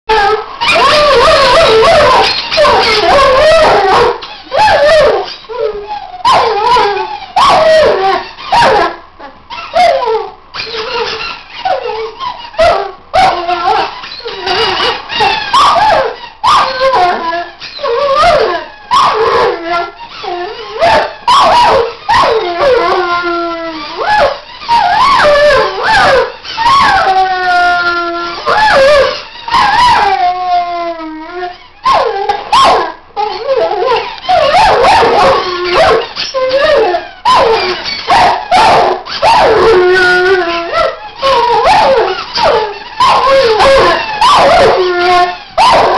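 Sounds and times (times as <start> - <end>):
dog howling and whining: 0.1 - 45.9.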